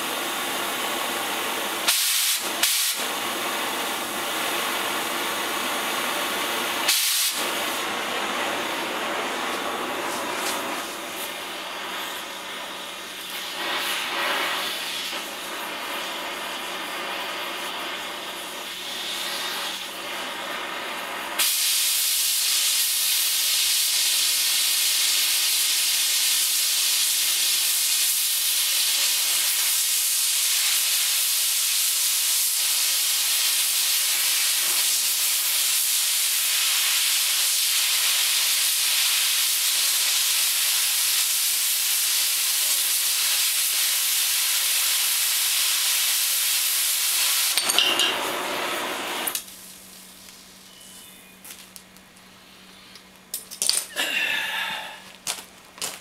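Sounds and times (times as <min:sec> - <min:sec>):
cutting torch hissing: 0:00.0 - 0:51.8, 0:53.9 - 0:56.0.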